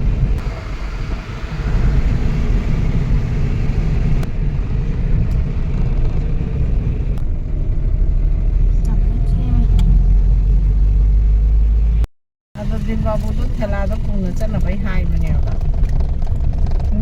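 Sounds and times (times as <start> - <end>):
motor vehicle engine rumbling: 0.0 - 17.0.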